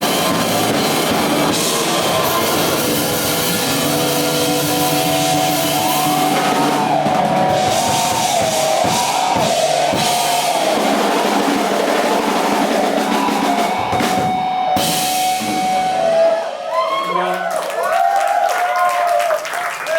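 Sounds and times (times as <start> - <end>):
high wavering melody line: 0.0 - 17.0
live rock band playing: 0.0 - 17.0.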